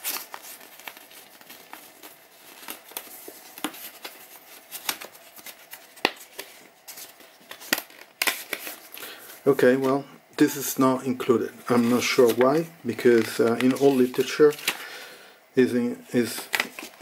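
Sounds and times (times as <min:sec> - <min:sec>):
paper and card rustling: 0:00.0 - 0:10.0, 0:11.5 - 0:15.0, 0:16.2 - 0:17.0.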